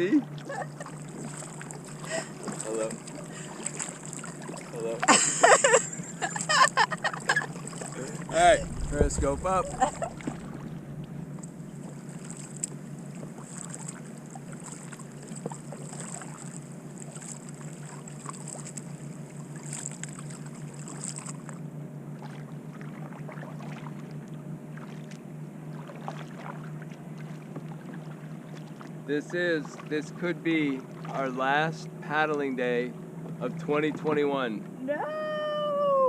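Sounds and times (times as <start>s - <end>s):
small paddle splashes: 0.0s - 5.2s, 7.1s - 21.6s, 22.2s - 31.3s
paddle blades dipping and dripping: 0.0s - 21.6s, 22.2s - 34.8s.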